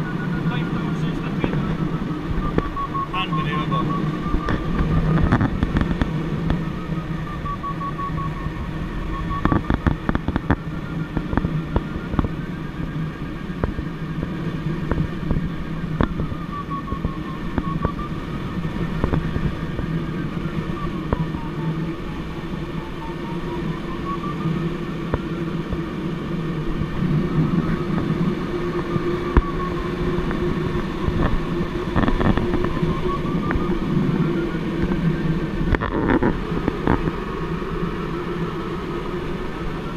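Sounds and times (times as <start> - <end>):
buffeting crackles: 0.0 - 39.9
electronic tone sliding in pitch: 0.0 - 39.9
rushing airflow with low drone: 0.0 - 39.9.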